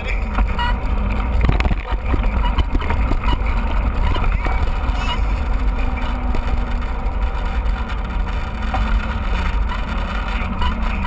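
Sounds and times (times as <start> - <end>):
mountain bike rolling: 0.0 - 11.0
wind buffeting microphone: 0.0 - 11.0.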